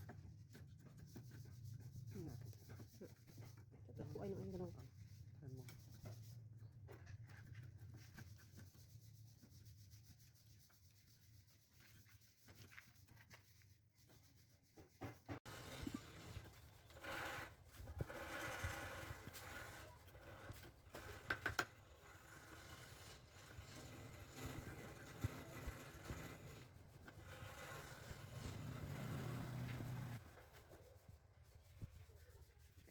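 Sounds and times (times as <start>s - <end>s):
rubbing and scraping on wood: 0.1s - 32.9s.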